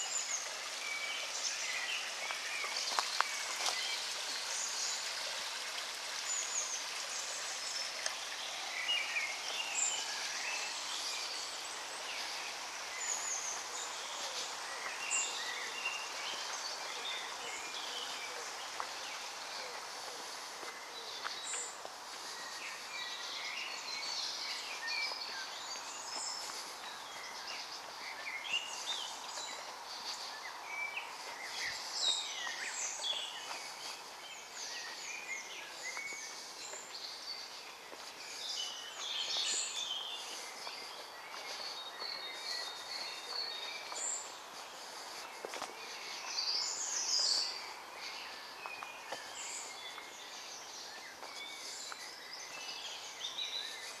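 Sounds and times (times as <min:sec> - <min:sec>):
faint steady hiss: 0:00.0 - 0:54.0
songbirds singing: 0:00.0 - 0:54.0.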